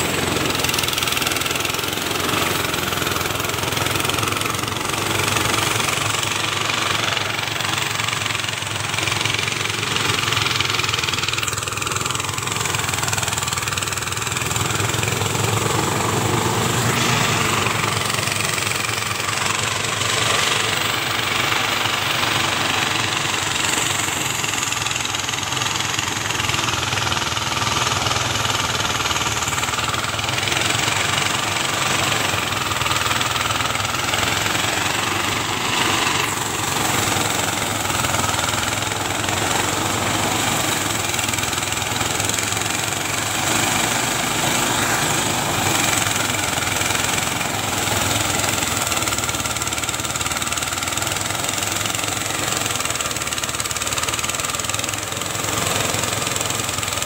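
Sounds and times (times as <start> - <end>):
engine-driven thresher running: 0.0 - 57.0.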